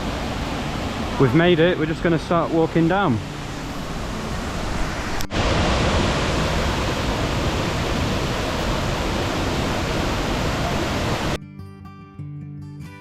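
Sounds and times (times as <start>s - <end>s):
falling water roaring: 0.0s - 11.4s.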